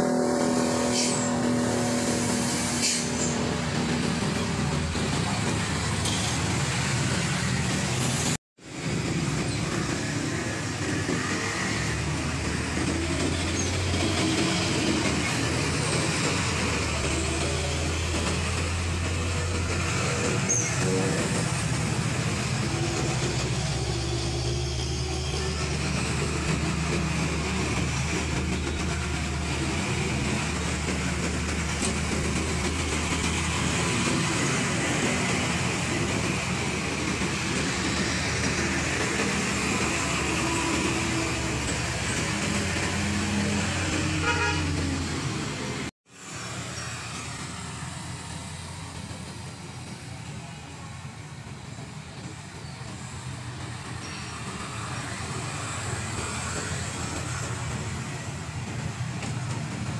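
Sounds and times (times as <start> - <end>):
trucks passing: 0.0 - 59.9.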